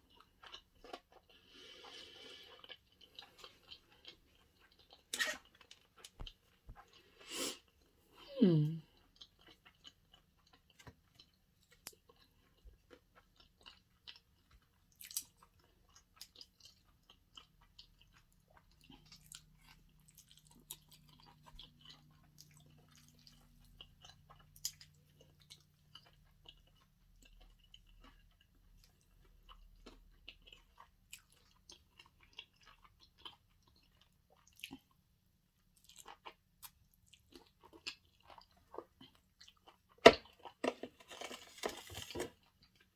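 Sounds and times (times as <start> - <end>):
person chewing: 0.0 - 7.9, 9.0 - 35.0, 35.8 - 42.9.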